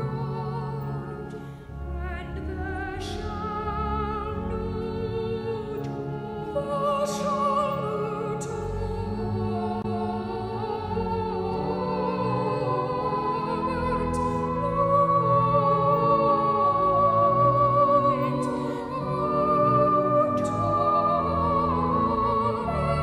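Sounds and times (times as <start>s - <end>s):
voices singing sacred music: 0.0s - 23.0s.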